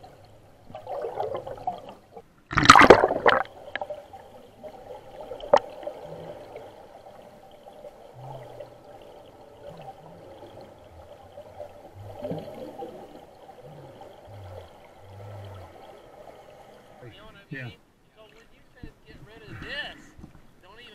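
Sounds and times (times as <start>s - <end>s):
underwater bubbles gurgling: 0.0s - 17.0s.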